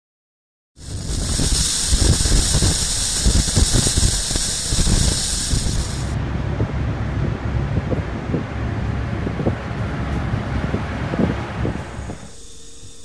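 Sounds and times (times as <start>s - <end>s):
wind buffeting microphone: 0.8s - 12.4s
steady high hiss: 0.8s - 13.0s
low road and engine rumble: 0.9s - 12.4s.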